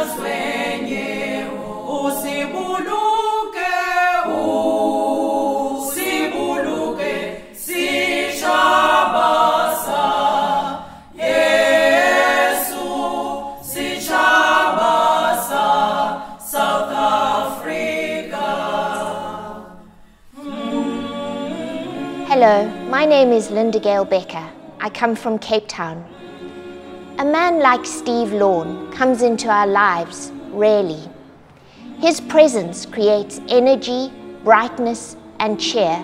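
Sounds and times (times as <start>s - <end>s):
choir singing a cappella: 0.0s - 36.0s.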